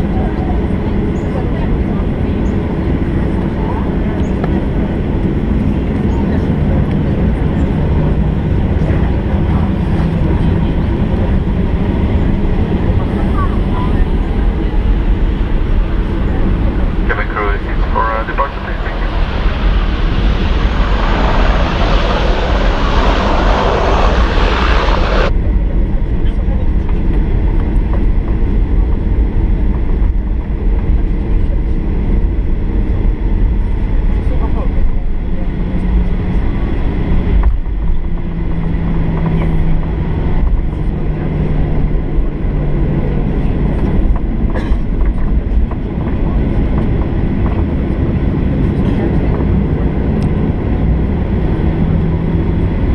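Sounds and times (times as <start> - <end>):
jet engines roaring: 0.0 - 27.6, 35.5 - 52.9.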